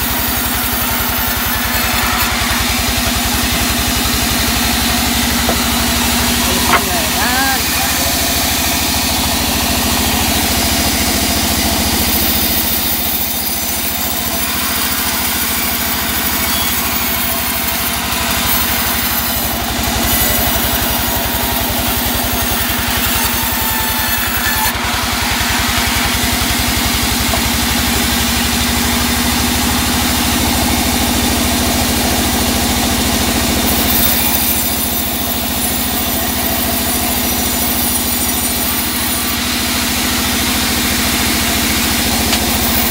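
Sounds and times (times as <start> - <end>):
band saw running: 0.0 - 42.9.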